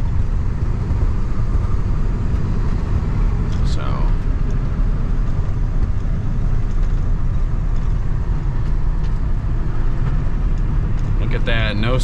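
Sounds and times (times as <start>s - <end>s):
diesel engine running: 0.0s - 12.0s
road noise: 0.0s - 12.0s.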